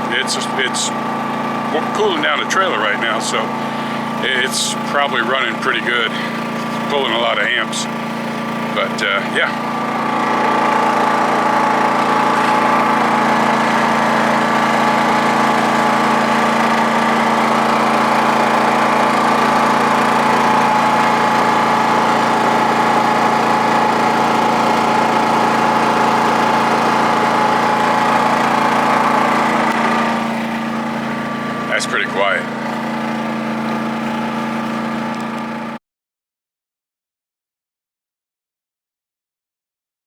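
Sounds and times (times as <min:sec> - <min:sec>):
generator humming: 0:00.0 - 0:35.8.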